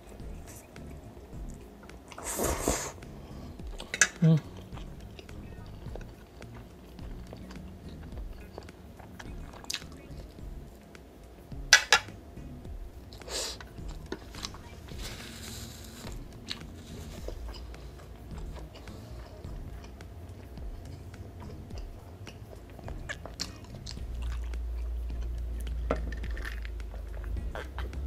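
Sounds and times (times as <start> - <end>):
close-miked chewing: 0.0 - 11.0, 13.0 - 28.0.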